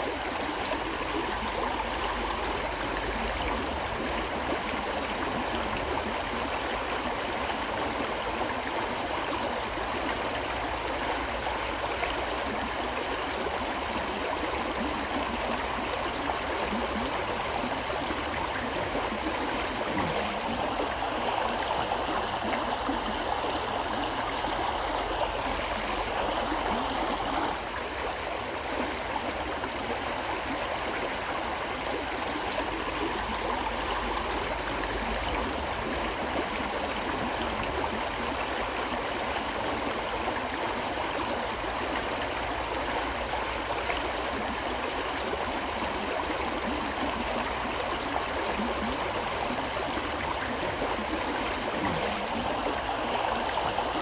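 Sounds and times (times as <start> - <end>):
river water rushing and gurgling: 0.1 - 54.0.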